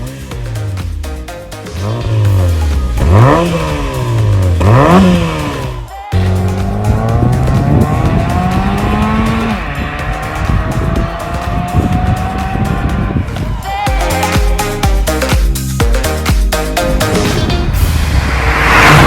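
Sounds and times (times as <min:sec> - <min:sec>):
car engine revving: 0:00.0 - 0:13.6, 0:16.6 - 0:19.0
exhaust drone rising in pitch: 0:01.6 - 0:15.4, 0:16.0 - 0:19.0.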